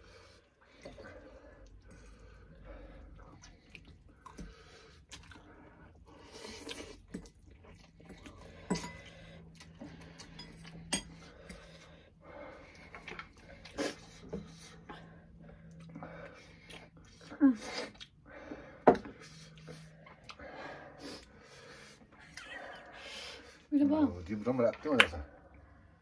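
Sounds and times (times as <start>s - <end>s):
heavy breathing: 0.0s - 7.0s, 8.2s - 23.8s
noodles slurped and chewed: 0.0s - 23.7s.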